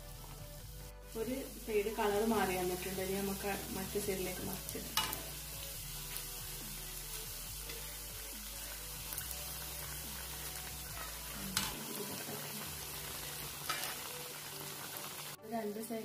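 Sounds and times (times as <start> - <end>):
oil sizzling: 0.0 - 15.9.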